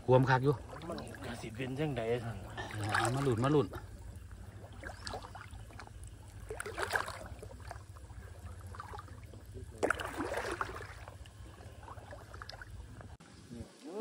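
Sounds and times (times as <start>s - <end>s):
water sloshing and splashing: 0.0s - 13.3s.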